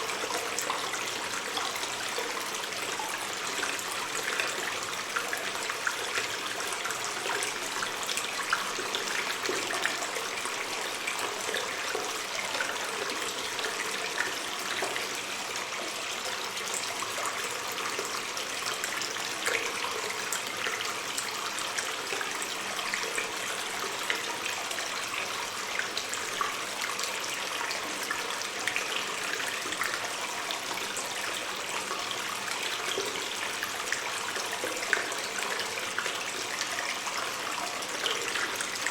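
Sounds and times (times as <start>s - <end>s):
water stream trickling: 0.0s - 38.9s.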